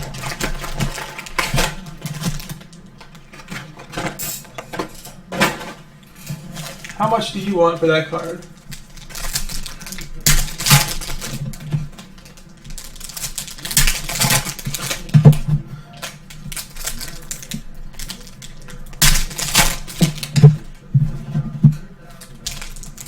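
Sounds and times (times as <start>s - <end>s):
wrappers crinkling: 0.0s - 23.0s.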